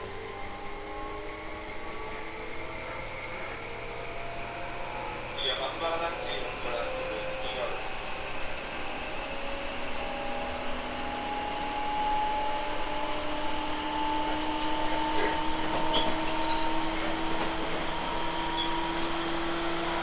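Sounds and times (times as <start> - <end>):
traction motor and gear whine: 0.0 - 20.0
wheels rumbling on rail: 0.0 - 20.0.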